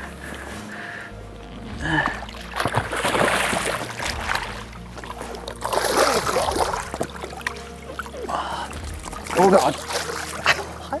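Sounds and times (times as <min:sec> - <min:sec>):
fish thrashing and splashing water: 0:01.7 - 0:11.0.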